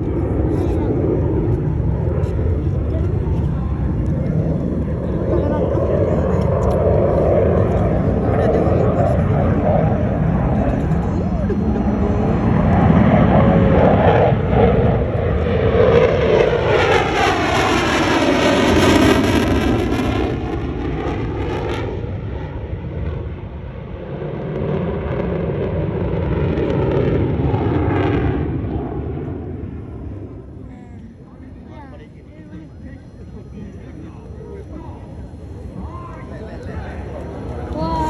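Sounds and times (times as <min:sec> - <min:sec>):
fighter jet flying past: 0:00.0 - 0:30.6.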